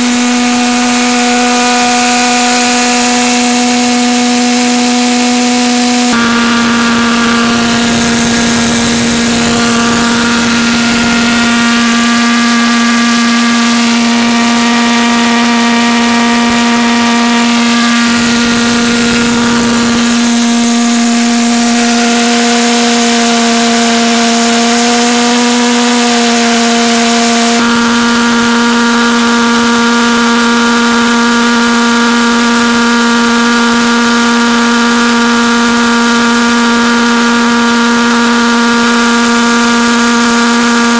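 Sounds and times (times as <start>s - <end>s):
pulsejet engine droning: 0.0s - 40.9s.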